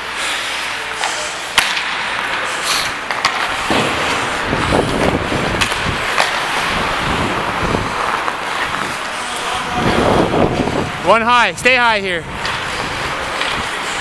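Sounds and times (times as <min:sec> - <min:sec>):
skate blades scraping ice: 0:00.1 - 0:10.7, 0:12.4 - 0:14.0
hockey sticks and puck clacking: 0:00.3 - 0:10.0, 0:12.4 - 0:14.0.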